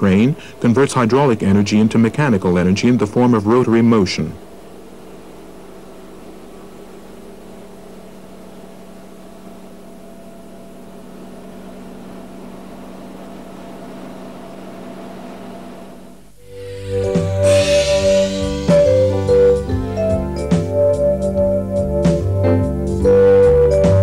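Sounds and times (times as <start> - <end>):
hydraulic machine hum: 4.4 - 23.9.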